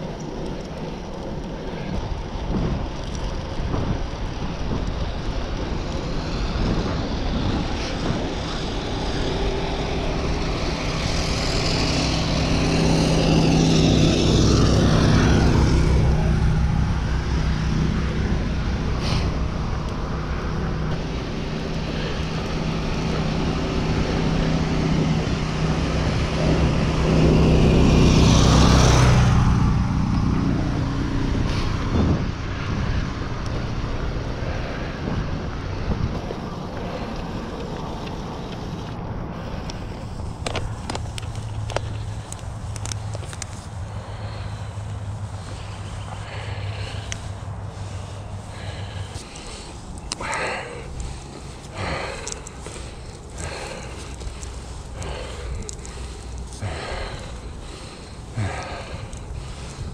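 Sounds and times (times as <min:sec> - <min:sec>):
bicycle tyres rumbling on pavement: 0:00.0 - 0:59.9.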